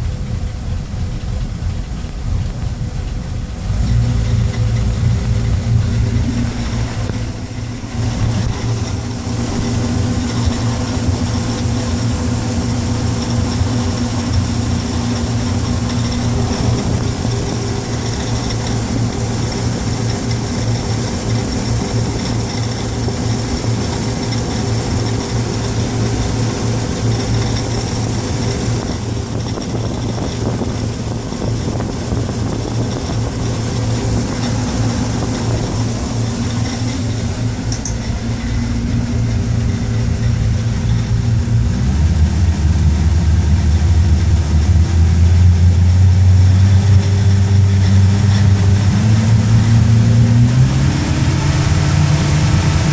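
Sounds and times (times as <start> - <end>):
boat engine running: 0.0 - 52.9.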